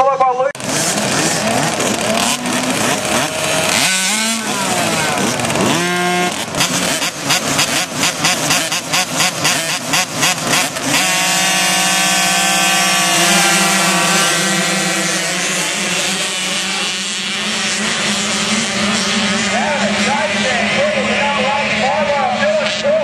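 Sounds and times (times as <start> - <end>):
two-stroke motocross engines revving: 0.0 - 23.0.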